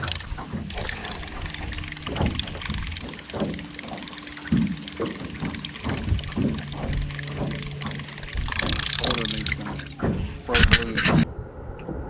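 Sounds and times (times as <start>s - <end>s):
electric trolling motor hum: 0.0s - 10.6s
water slapping against boat hull: 0.0s - 11.3s.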